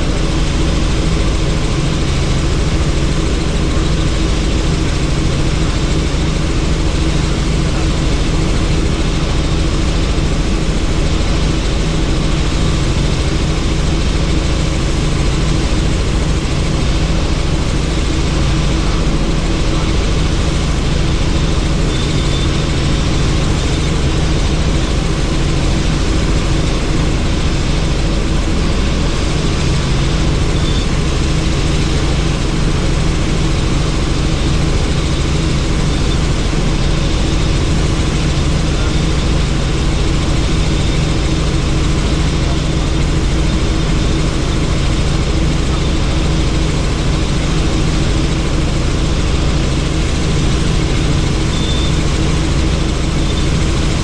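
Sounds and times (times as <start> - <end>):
helicopter rotor and engine noise: 0.0 - 54.0.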